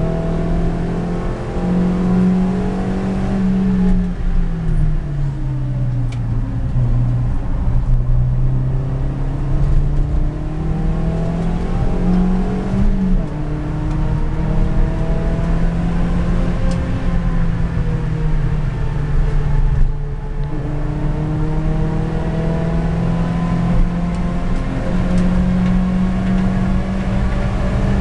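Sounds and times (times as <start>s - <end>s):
car engine at speed: 0.0s - 28.0s.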